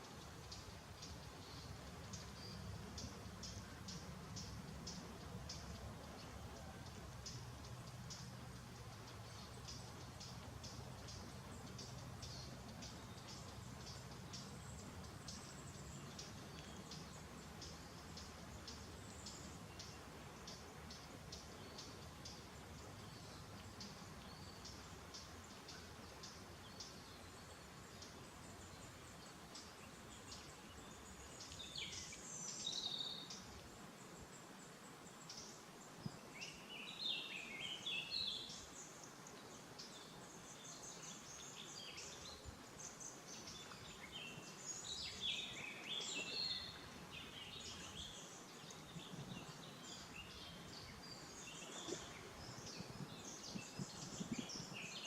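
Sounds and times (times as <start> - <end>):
faint outdoor background hiss: 0.0 - 55.0
small birds chirping and singing: 0.0 - 55.0.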